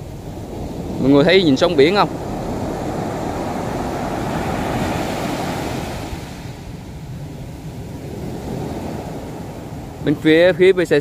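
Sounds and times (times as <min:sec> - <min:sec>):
sea surf breaking on a beach: 0:00.0 - 0:11.0.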